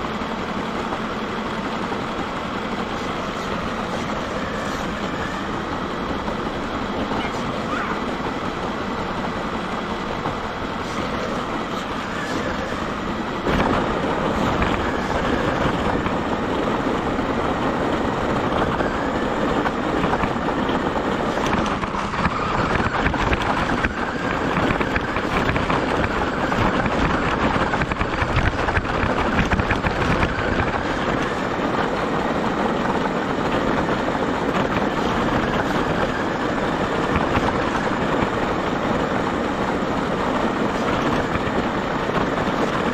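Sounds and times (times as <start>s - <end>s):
radio-controlled car driving: 0.0s - 42.9s.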